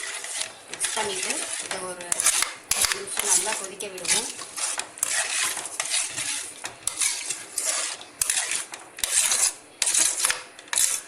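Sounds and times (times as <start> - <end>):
spoon scraping a pot: 0.0 - 11.0.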